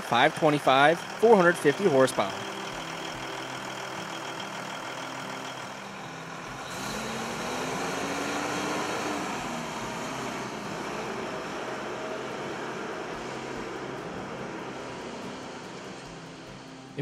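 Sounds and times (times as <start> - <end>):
diesel truck engine idling and revving: 0.0 - 17.0.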